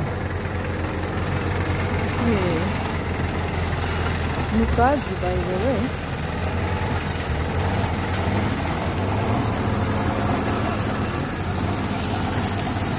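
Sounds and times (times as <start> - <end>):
tractor engine running: 0.0 - 12.9.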